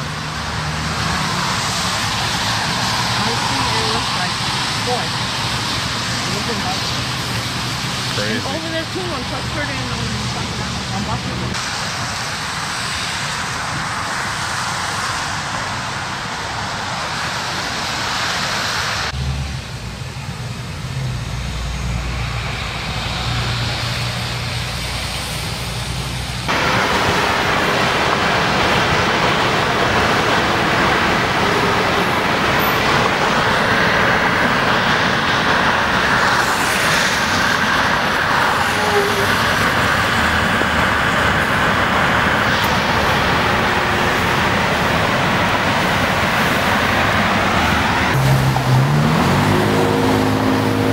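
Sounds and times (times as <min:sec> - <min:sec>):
traffic on wet road: 0:00.0 - 0:50.9.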